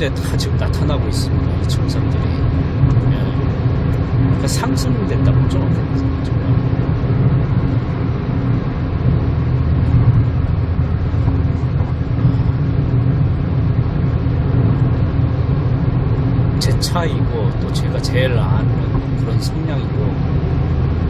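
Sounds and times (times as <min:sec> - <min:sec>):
car cabin engine and tyre rumble: 0:00.0 - 0:21.0.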